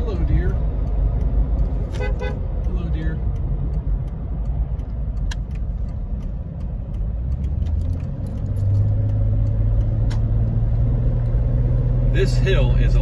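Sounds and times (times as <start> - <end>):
car engine drone: 0.0 - 13.0
road noise inside car: 0.0 - 13.0.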